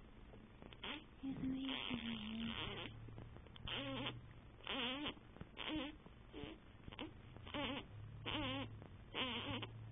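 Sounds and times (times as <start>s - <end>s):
baby fussing: 0.8s - 3.0s, 3.7s - 9.8s.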